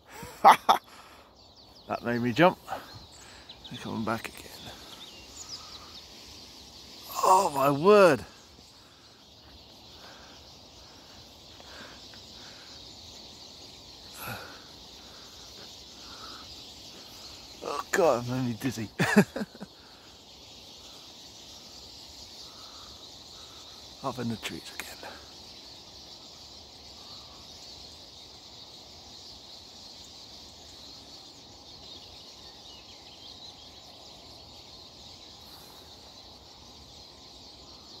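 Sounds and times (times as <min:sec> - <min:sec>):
flock of birds twittering: 0:00.0 - 0:38.0.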